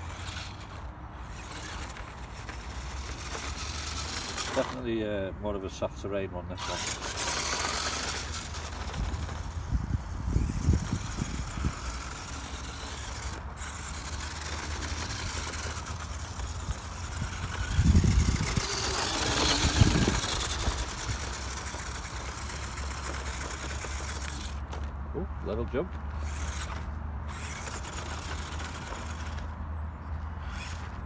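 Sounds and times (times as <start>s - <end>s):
electric toy car motor whining: 0.0s - 5.0s, 6.5s - 24.9s, 25.6s - 29.6s, 30.3s - 31.0s.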